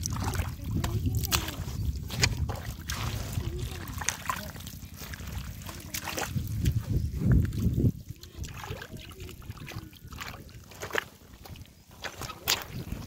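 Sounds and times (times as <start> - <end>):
hands splashing in muddy water: 0.0 - 13.0.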